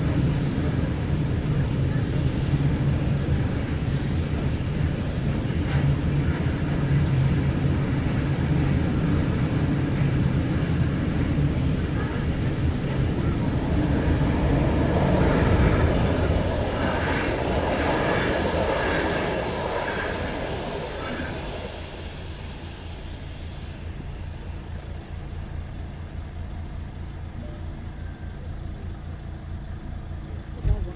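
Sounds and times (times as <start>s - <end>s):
car engine idling: 0.0s - 30.9s
railway wagons rolling past: 0.0s - 30.9s.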